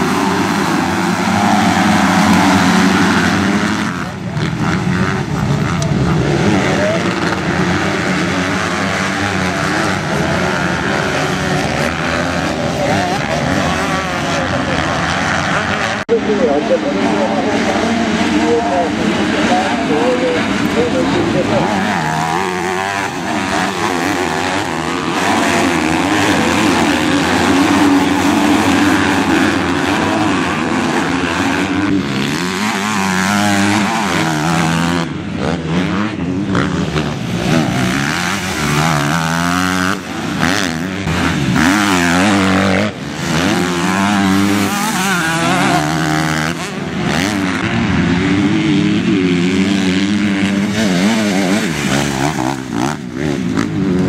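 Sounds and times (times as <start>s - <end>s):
motocross motorcycles revving: 0.0s - 54.0s.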